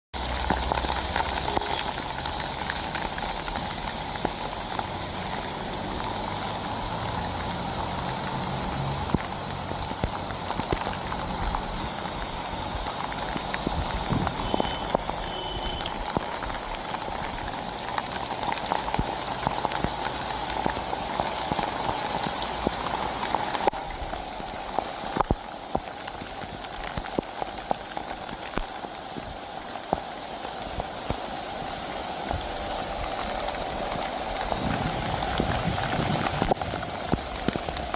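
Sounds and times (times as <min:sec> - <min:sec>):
heavy rain pouring: 0:00.2 - 0:37.9.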